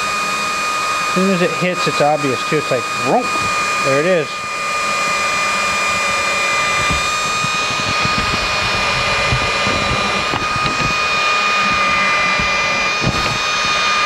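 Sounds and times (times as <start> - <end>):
cordless drill motor whining: 0.0 - 14.0.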